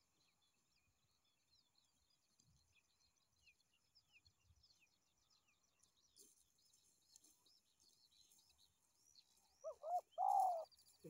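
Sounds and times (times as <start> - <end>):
distant small birds chirping: 0.0 - 11.0.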